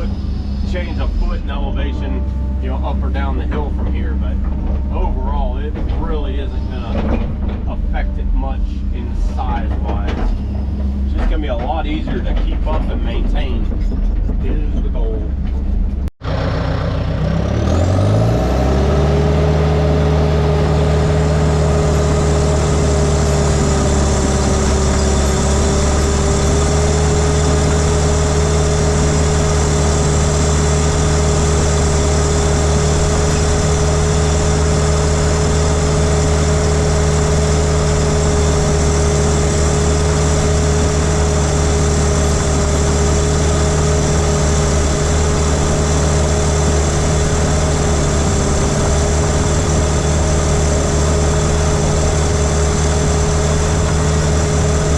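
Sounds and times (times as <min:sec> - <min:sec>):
steady whine: 0:00.0 - 0:16.9, 0:19.8 - 0:54.9
heavy diesel engine running: 0:00.0 - 0:54.9.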